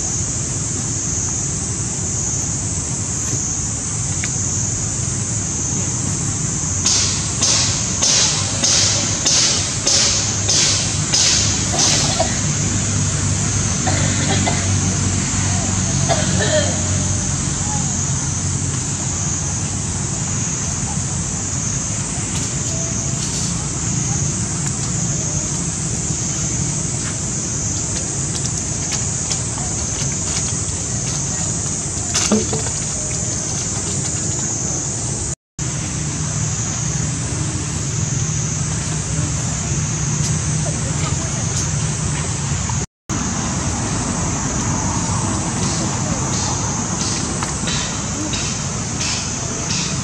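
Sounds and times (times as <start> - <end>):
rhythmic pulsing hiss: 0.0 - 50.0.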